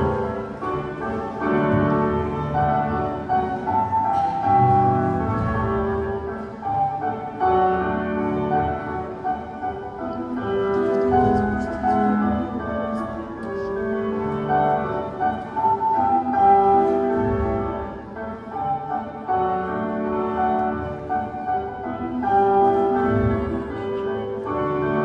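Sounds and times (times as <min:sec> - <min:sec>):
classical piano music: 0:00.0 - 0:25.0.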